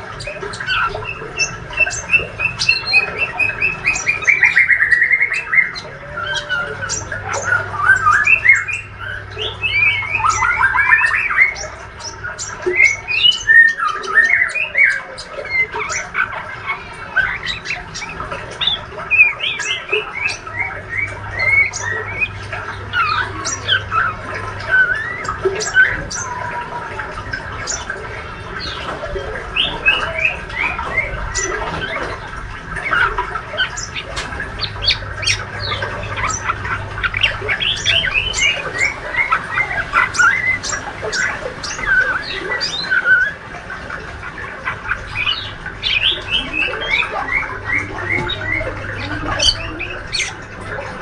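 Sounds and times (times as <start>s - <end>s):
bird twittering song: 0.0s - 51.0s.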